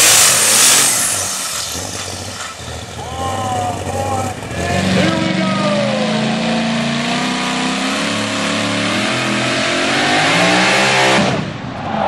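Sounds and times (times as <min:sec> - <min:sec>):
supercharged truck engine at full throttle: 0:00.0 - 0:11.7.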